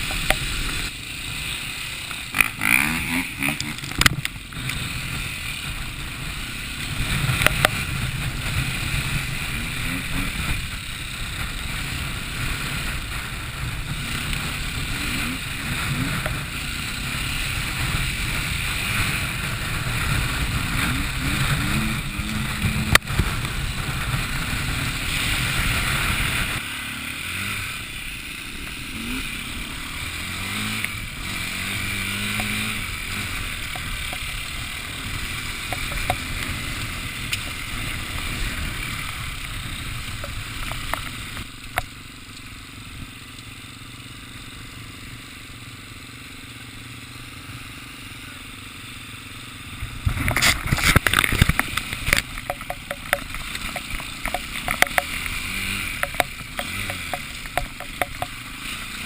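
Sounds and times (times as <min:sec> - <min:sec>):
steady rushing noise: 0:00.0 - 0:59.0
vehicle engine running: 0:00.0 - 0:59.0.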